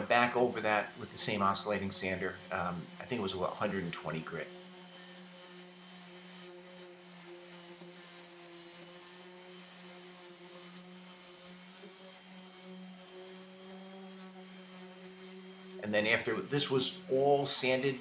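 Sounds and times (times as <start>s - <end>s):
electric sander humming: 0.0s - 18.0s.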